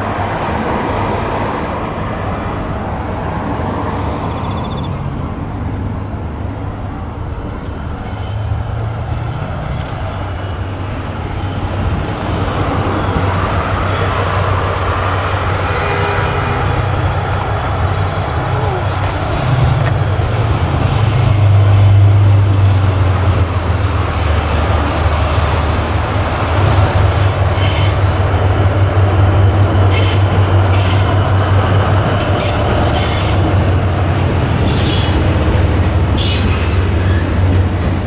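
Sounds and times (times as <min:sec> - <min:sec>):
diesel locomotive engine drone: 0:00.0 - 0:38.0
train wheels squealing: 0:00.0 - 0:38.0.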